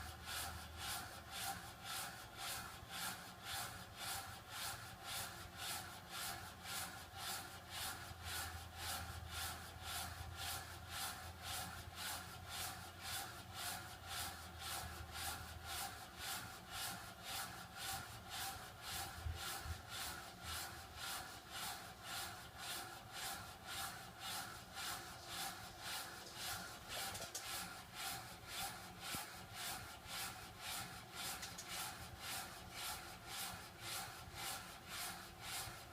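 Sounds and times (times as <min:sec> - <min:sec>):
rhythmic pulsing water hiss: 0:00.0 - 0:35.9.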